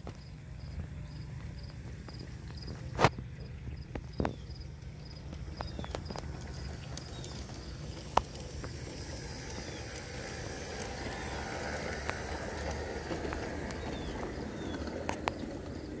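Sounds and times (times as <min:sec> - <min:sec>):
model train wheels rumbling on rails: 0:00.0 - 0:16.0.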